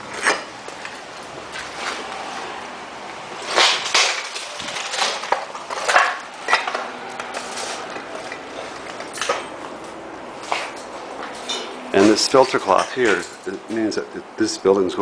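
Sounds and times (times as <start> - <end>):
metal debris clattering: 0.0 - 2.0, 3.4 - 14.0.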